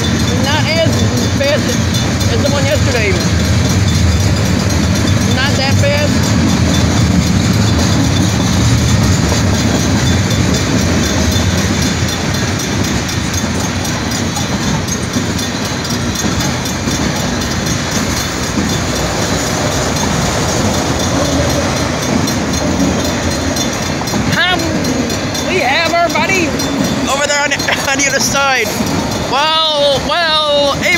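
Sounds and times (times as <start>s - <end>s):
train rumbling on rails: 0.0s - 30.9s.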